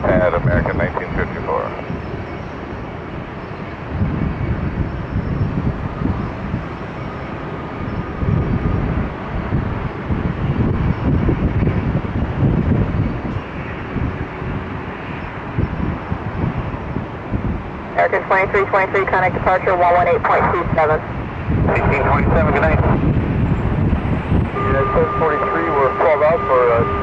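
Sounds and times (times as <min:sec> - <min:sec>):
jet engine rumble: 0:00.0 - 0:27.0
wind buffeting microphone: 0:00.0 - 0:27.0.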